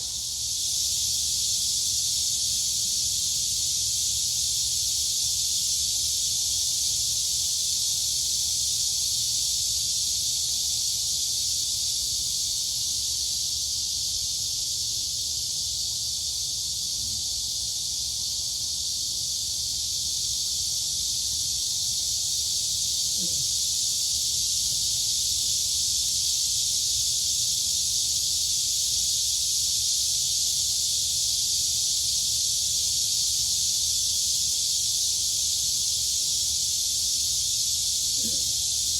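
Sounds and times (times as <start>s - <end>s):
crickets and cicadas buzzing: 0.0s - 38.9s.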